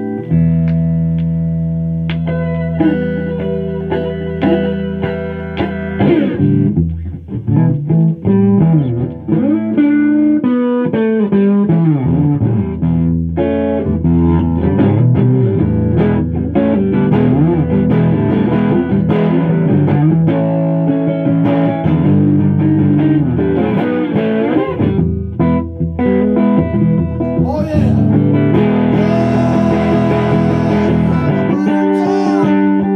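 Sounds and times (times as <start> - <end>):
electric guitar with string bends: 0.0 - 32.9.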